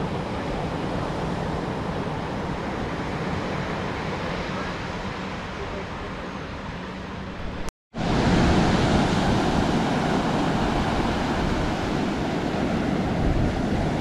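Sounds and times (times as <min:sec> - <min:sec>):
ocean surf rushing: 0:00.0 - 0:14.0.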